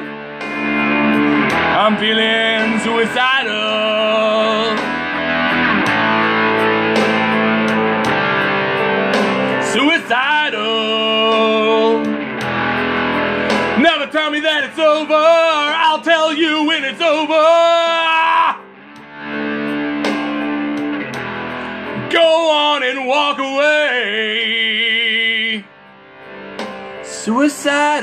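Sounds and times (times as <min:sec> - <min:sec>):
rock blues guitar instrumental: 0:00.0 - 0:28.0.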